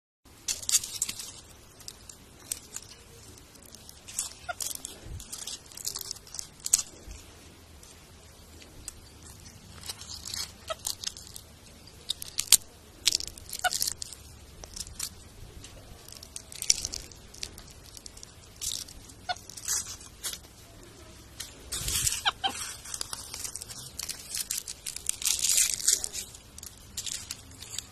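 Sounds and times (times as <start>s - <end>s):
leaves crunching and crackling: 0.3s - 27.9s.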